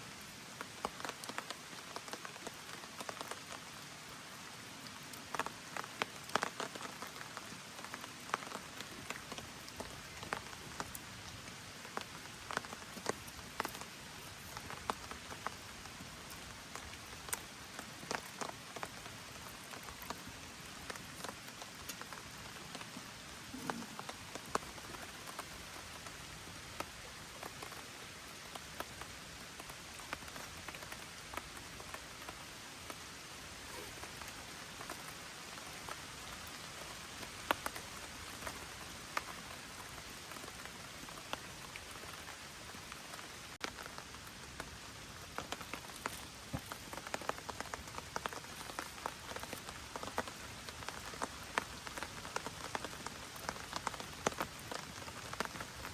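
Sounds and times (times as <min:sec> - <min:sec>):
gentle rain falling: 0:00.0 - 0:55.9
raindrops ticking close by: 0:00.0 - 0:55.9.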